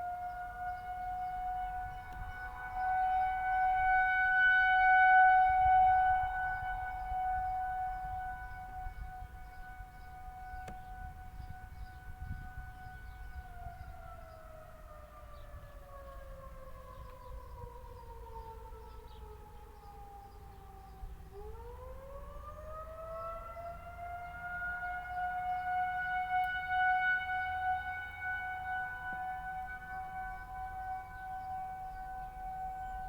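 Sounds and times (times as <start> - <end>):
warning siren wailing: 0.0 - 33.0.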